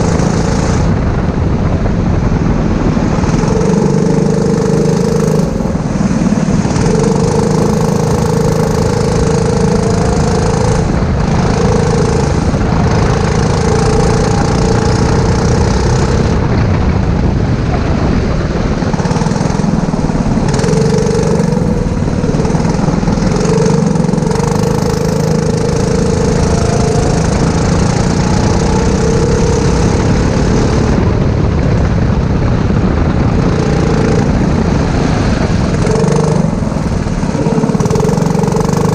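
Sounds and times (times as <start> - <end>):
constant rushing noise: 0.0 - 38.9
kart engine revving: 0.0 - 38.9.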